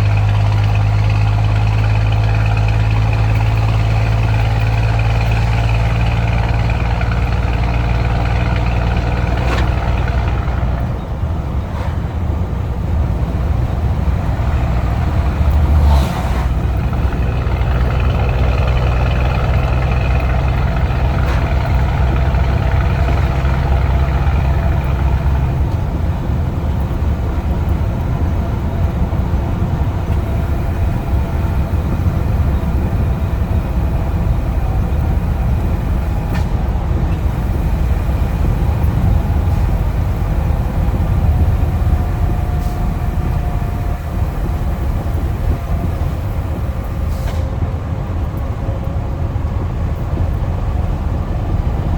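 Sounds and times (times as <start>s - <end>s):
truck engine running loud: 0.0s - 51.9s.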